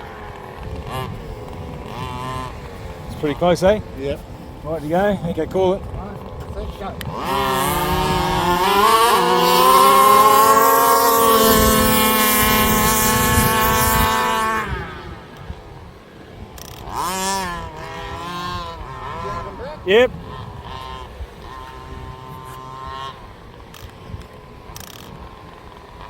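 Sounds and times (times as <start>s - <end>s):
two-stroke engines at full throttle: 0.0s - 26.0s.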